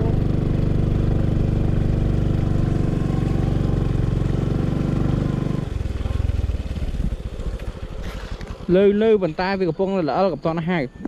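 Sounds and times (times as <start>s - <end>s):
small motorcycle engine running: 0.0s - 10.3s.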